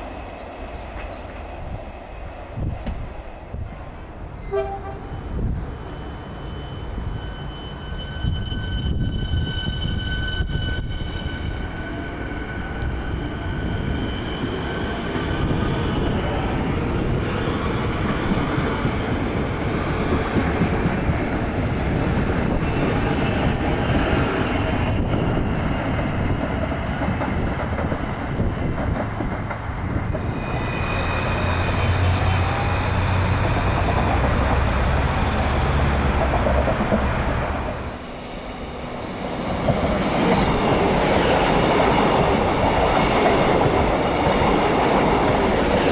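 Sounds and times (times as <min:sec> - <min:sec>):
electric train on rails: 0:00.0 - 0:45.9.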